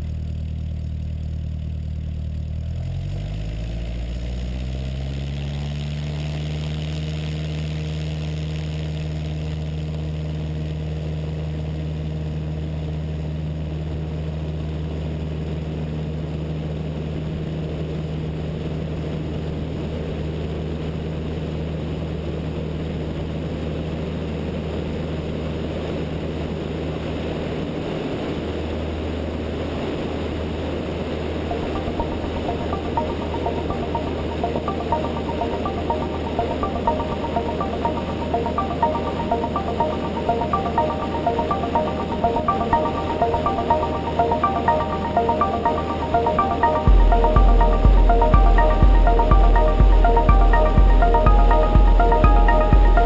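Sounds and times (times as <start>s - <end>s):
light aircraft engine drone: 0.0s - 46.8s.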